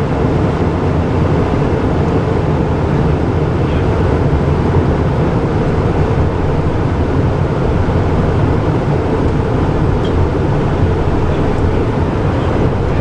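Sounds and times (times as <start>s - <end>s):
airflow rush: 0.0s - 13.0s
jet engine drone: 0.0s - 13.0s.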